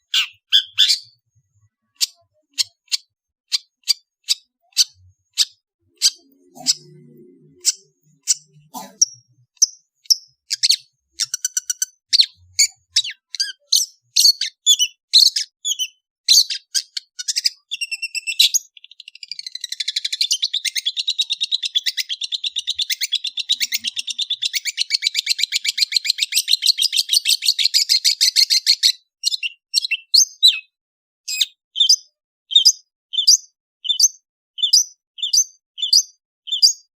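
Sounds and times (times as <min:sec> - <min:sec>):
bird chattering trill: 0:00.0 - 0:30.7.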